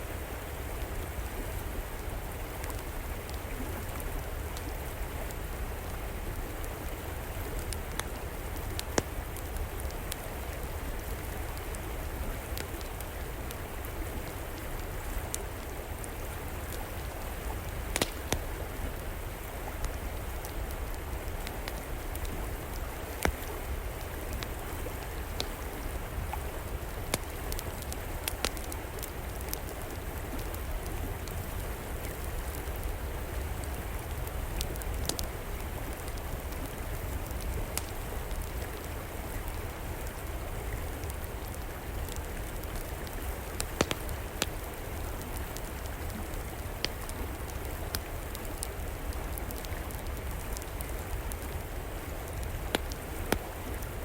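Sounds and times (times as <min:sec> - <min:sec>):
flowing river: 0:00.0 - 0:54.0
wood fire crackling: 0:00.2 - 0:54.0.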